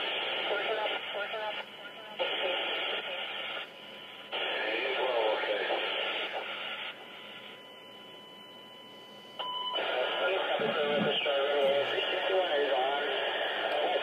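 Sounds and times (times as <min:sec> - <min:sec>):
radio hiss: 0:00.0 - 0:07.6, 0:09.8 - 0:14.0
radio voice transmissions: 0:00.0 - 0:07.6, 0:09.8 - 0:14.0.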